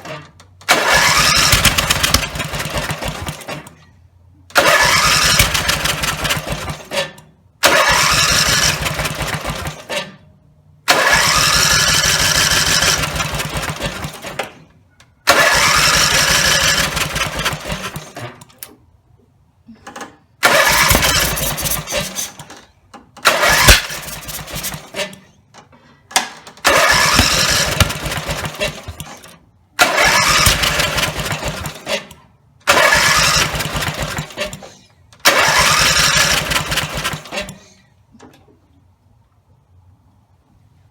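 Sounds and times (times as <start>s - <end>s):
mower engine cranking on starter: 0.0s - 10.3s, 10.9s - 18.9s, 19.7s - 37.9s.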